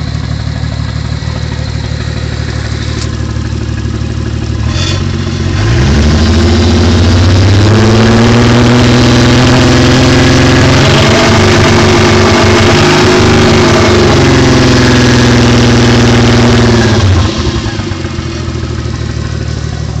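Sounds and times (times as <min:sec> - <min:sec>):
car engine at raised revs: 0:00.0 - 0:20.0.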